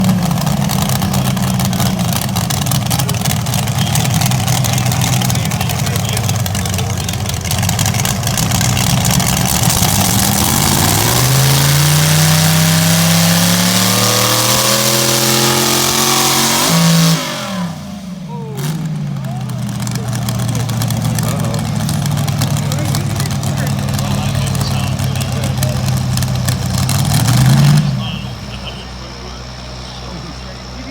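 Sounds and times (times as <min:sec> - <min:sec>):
pulling vehicle engine revving: 0:00.0 - 0:30.9.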